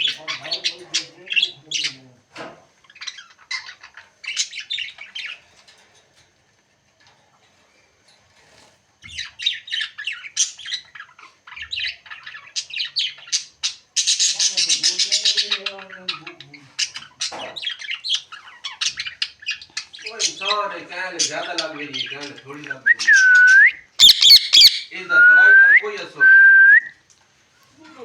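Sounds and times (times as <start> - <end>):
parrot squawking and chirping: 0.0 - 2.0, 2.8 - 5.6, 9.1 - 26.8.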